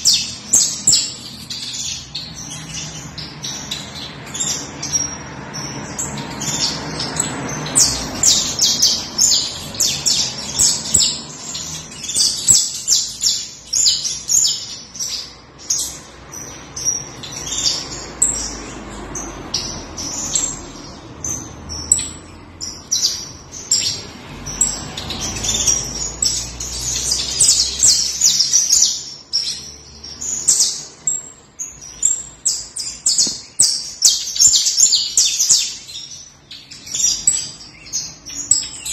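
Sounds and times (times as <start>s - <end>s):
finch singing high chirps and trills: 0.0s - 38.9s.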